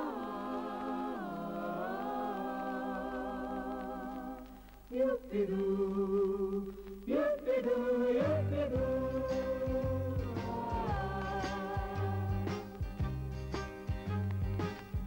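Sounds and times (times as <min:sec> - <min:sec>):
wordless held vocal notes: 0:00.0 - 0:12.8.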